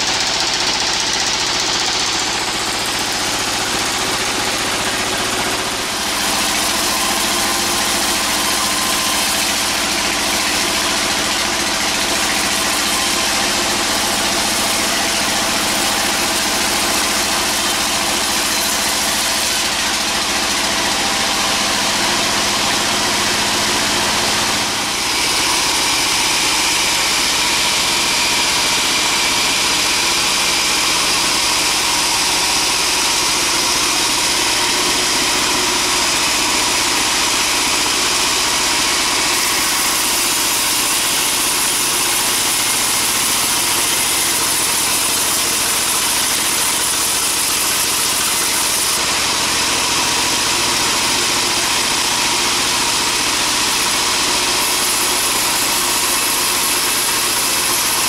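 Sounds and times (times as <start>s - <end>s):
bandsaw machinery droning: 0.0s - 58.0s.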